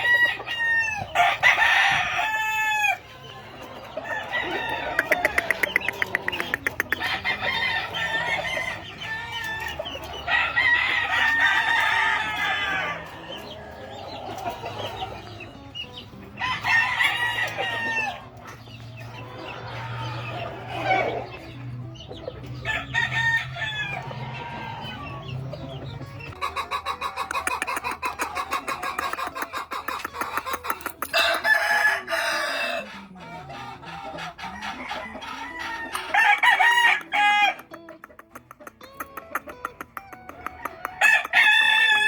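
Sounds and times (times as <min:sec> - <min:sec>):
roosters crowing: 0:00.0 - 0:38.8, 0:39.6 - 0:42.0
chickens clucking: 0:00.0 - 0:42.0.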